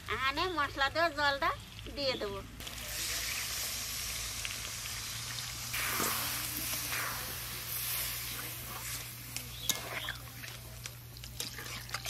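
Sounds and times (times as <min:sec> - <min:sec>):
water sizzling in hot pan: 0:01.7 - 0:12.0.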